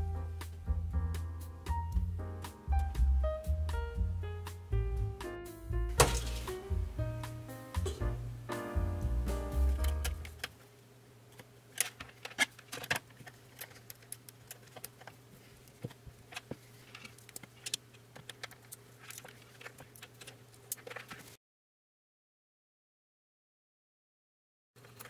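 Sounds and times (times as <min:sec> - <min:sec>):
faint steady hum: 0:00.0 - 0:21.4.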